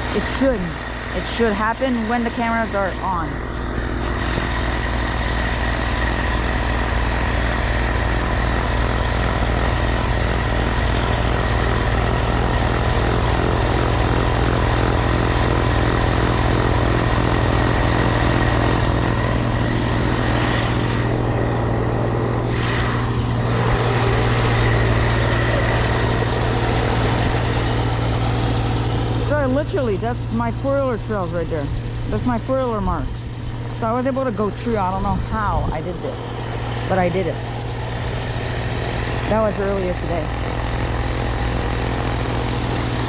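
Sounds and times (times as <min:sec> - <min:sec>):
small gasoline engine running: 0:00.0 - 0:43.0.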